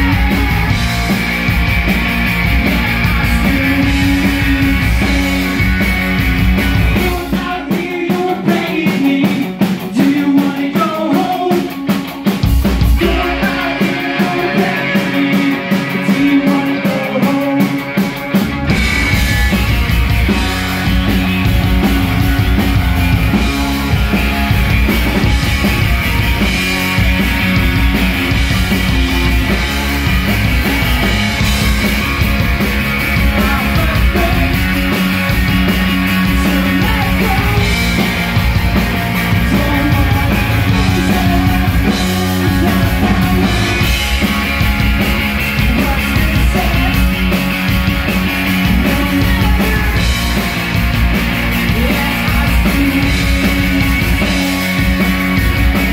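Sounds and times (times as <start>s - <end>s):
bass guitar: 0.0s - 55.9s
drum kit: 0.0s - 55.9s
electric guitars: 0.0s - 55.9s.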